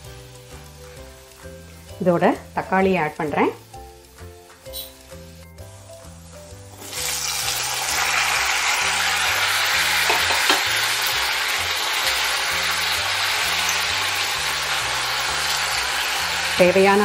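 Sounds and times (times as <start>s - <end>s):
tomatoes sizzling in hot oil: 0.0s - 17.0s.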